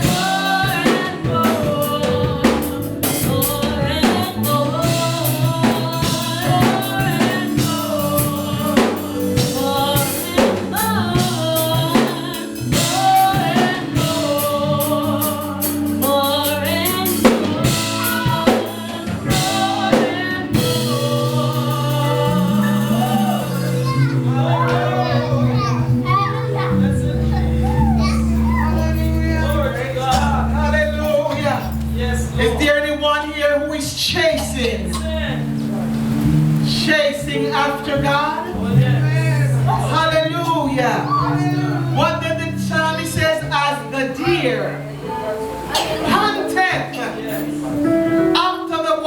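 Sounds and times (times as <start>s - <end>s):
drum kit: 0.0s - 43.5s
gospel singing: 0.0s - 49.0s
held keyboard chords: 0.0s - 49.0s.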